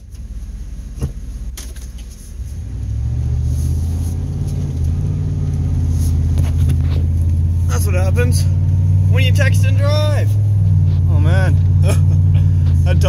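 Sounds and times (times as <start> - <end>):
pickup truck engine rumble: 0.0 - 13.0.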